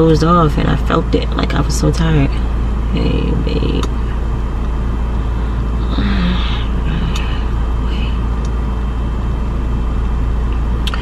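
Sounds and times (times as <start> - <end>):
car idling: 0.0 - 11.0.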